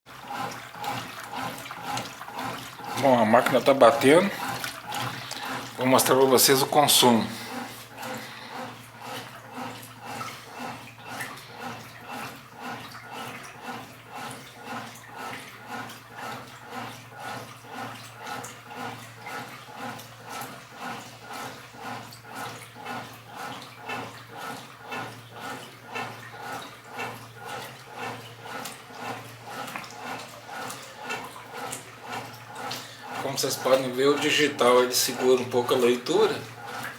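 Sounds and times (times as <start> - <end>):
washing machine water sloshing: 0.0 - 36.9.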